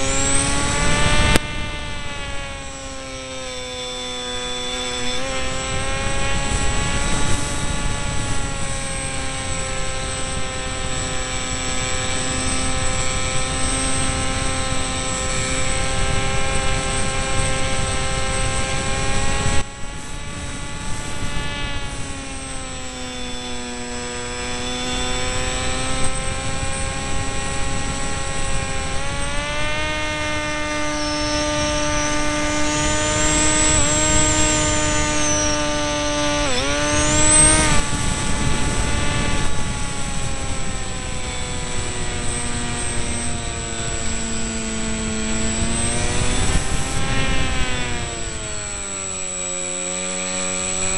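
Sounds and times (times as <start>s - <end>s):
electric motor and propeller whine: 0.0s - 50.9s.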